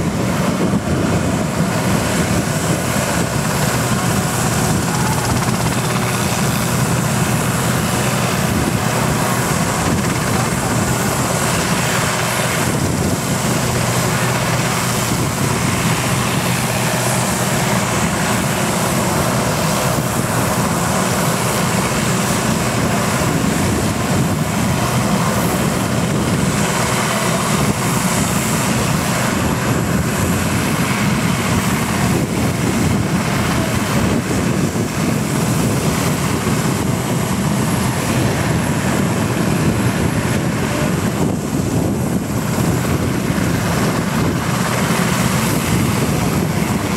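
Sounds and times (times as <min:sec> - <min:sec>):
helicopter engines and rotors: 0:00.0 - 0:46.9.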